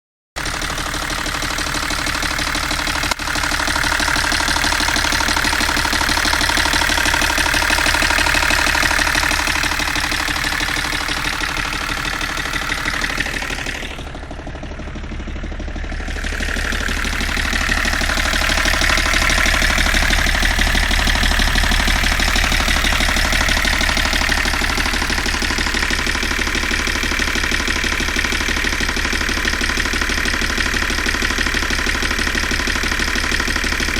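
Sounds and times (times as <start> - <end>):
car engine running with a knock: 0.4 - 33.9.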